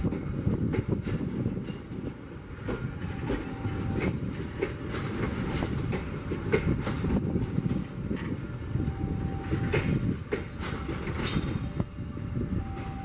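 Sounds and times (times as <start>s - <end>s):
wheels clacking over rails: 0.0s - 11.8s
train coaches rumbling past: 0.0s - 13.0s.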